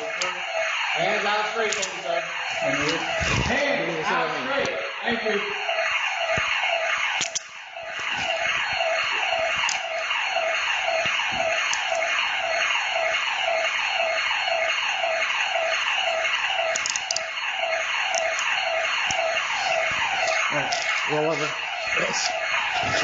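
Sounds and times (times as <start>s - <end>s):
burglar alarm siren wailing: 0.0s - 23.0s.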